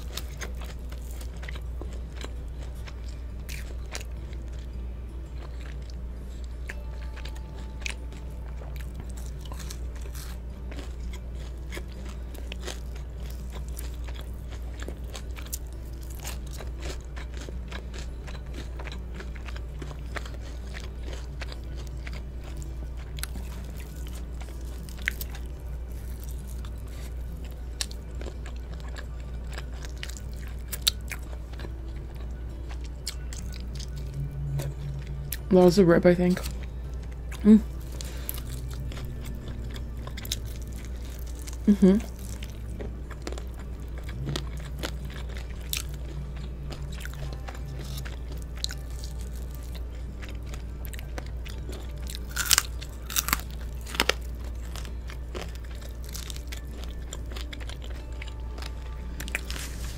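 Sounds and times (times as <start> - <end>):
crunchy chewing of fried chicken: 0.0 - 35.5, 36.3 - 59.9
low steady hum: 0.0 - 59.9.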